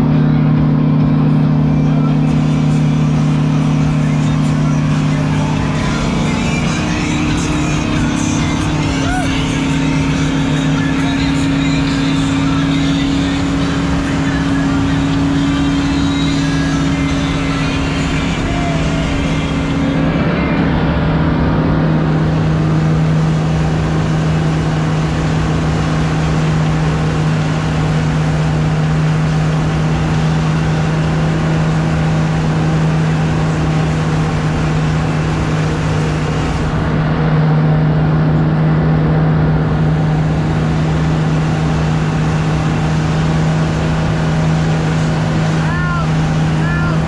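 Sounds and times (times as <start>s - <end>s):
boat engine droning: 0.0s - 47.0s
churning wake rushing: 0.0s - 47.0s.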